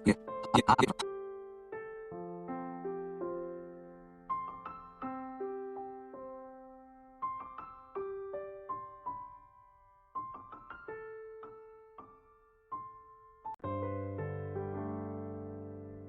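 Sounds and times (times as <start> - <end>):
soft solo piano: 0.0 - 16.0.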